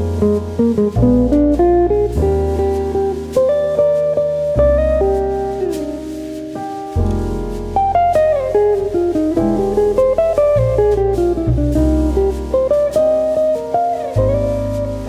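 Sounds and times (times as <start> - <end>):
low bass line: 0.0 - 15.0
plucked guitar melody: 0.0 - 15.0.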